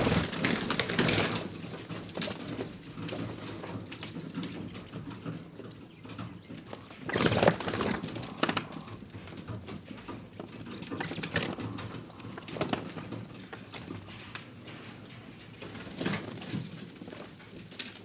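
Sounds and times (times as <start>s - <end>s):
pigeons cooing: 0.0s - 16.4s
tapping and scuffling: 0.0s - 18.0s.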